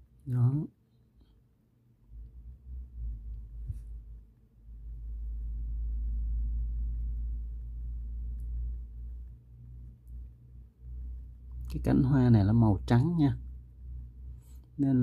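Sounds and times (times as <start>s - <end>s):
faint steady hum: 0.0s - 15.0s
low rumble: 2.0s - 15.0s.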